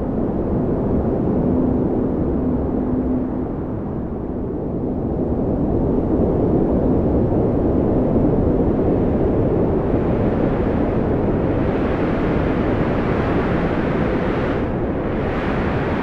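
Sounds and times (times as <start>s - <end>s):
strong wind rumbling: 0.0s - 16.0s.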